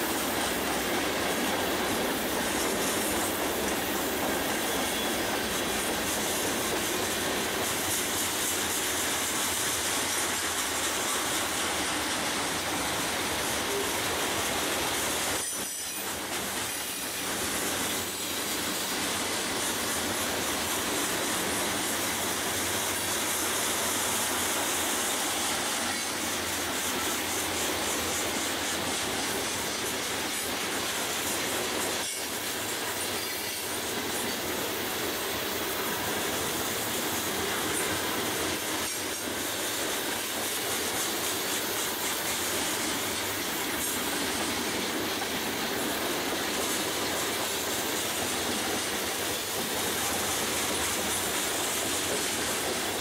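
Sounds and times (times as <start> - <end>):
steel wheels rolling on rail: 0.0 - 53.0.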